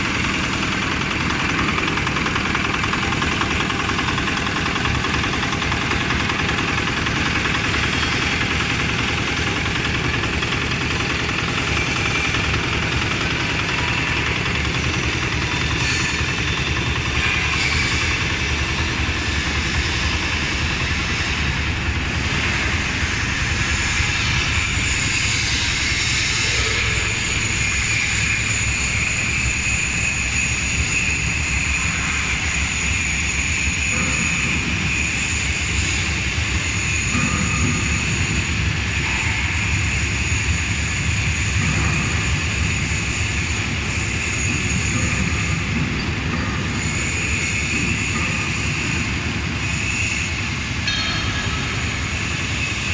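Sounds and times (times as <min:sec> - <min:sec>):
shaking table mechanical drone: 0:00.0 - 0:52.9.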